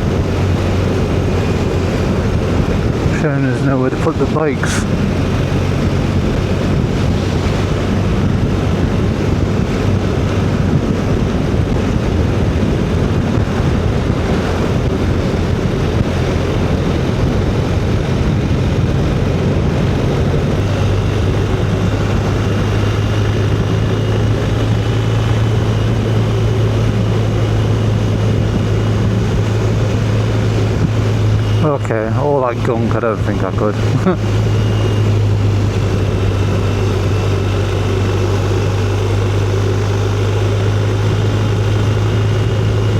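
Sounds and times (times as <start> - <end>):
motorcycle engine drone: 0.0 - 42.9
wind rush: 0.0 - 42.9.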